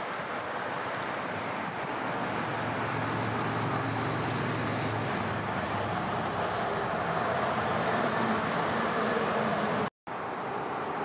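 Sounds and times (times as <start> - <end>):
road traffic noise: 0.0 - 11.0
vehicle engine hum: 0.0 - 11.0.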